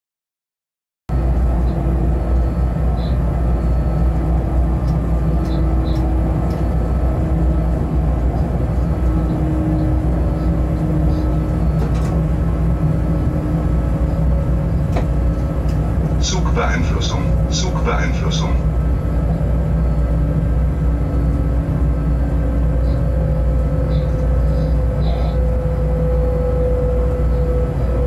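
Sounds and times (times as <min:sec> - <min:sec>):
locomotive wheels rumbling on track: 0:01.1 - 0:28.0
faint hum: 0:01.2 - 0:28.0.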